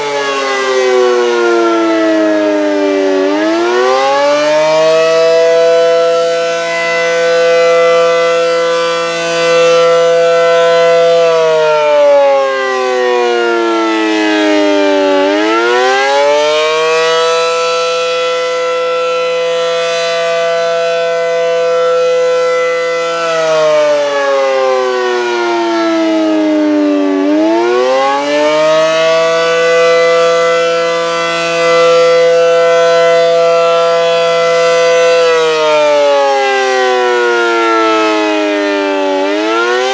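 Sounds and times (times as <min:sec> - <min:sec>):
tornado siren rising and falling: 0:00.0 - 0:39.9.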